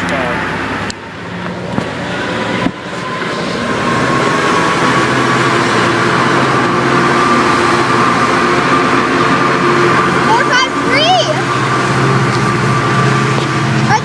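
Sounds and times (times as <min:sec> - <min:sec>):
diesel locomotive engine running: 0:00.0 - 0:14.0
high whine: 0:00.0 - 0:14.0.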